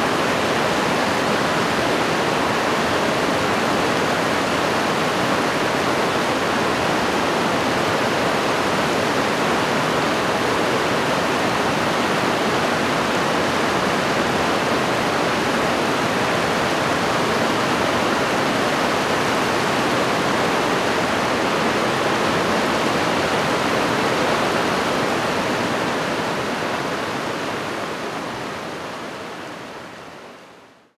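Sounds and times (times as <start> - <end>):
stream rushing over rocks: 0.0 - 30.6.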